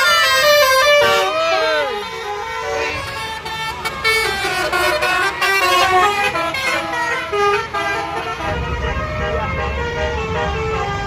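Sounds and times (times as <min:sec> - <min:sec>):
bus musical horn tune: 0:00.0 - 0:11.0
low vehicle rumble: 0:00.0 - 0:11.0.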